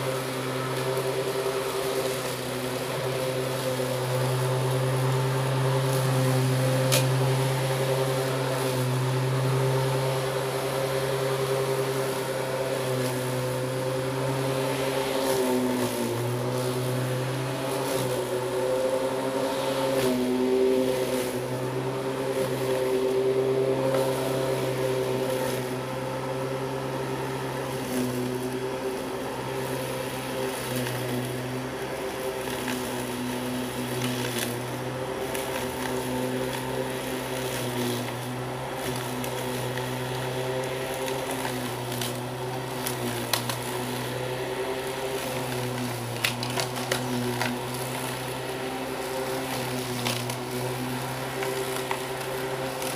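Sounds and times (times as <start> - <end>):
electric lawn mower running: 0.0 - 52.9.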